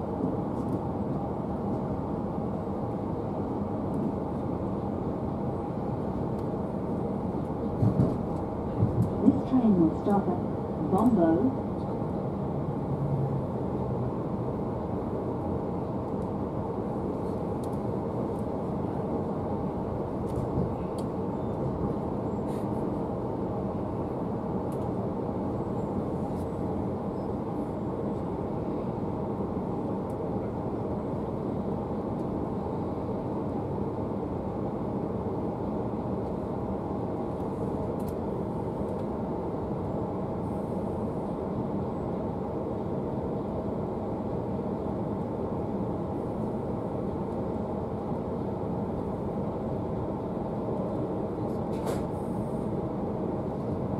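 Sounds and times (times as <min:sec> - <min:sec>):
train rumbling: 0:00.0 - 0:53.9.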